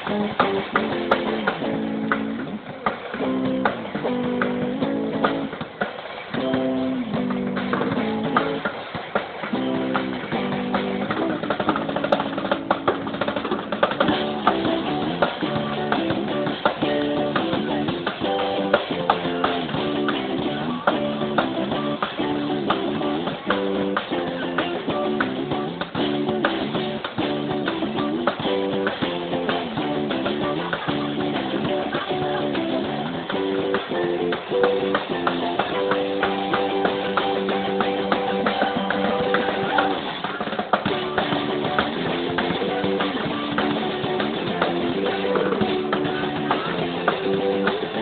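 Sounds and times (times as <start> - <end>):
drum beat: 0.0 - 48.0
guitar riff: 0.0 - 48.0.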